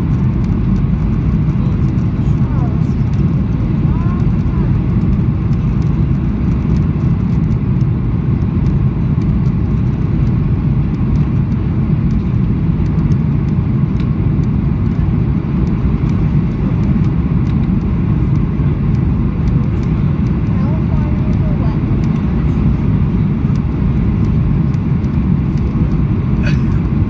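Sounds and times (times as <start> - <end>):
aircraft cabin engine rush: 0.0 - 27.0.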